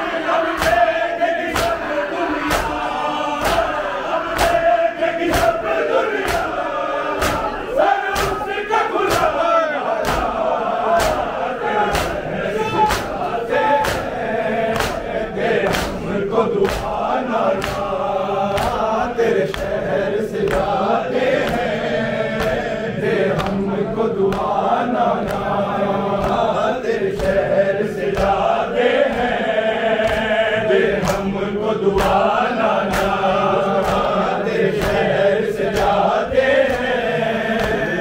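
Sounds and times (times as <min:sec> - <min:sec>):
men chanting: 0:00.0 - 0:38.0.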